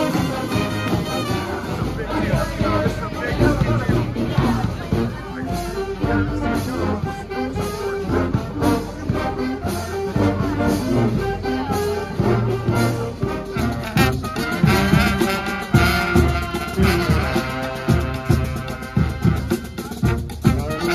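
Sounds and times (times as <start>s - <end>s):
brass band playing: 0.0s - 20.9s
marching drums: 0.0s - 20.9s.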